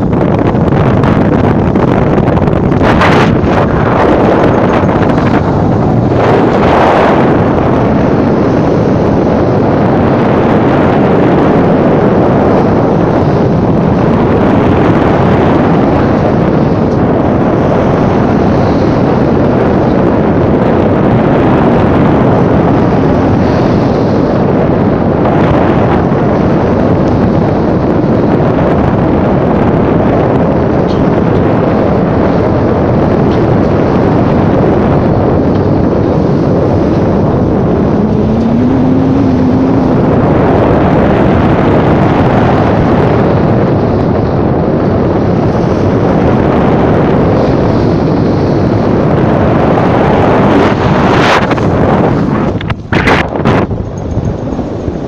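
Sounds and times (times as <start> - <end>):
water rushing past hull: 0.0 - 53.9
boat engine running: 0.0 - 55.0
wind on microphone: 0.0 - 55.0.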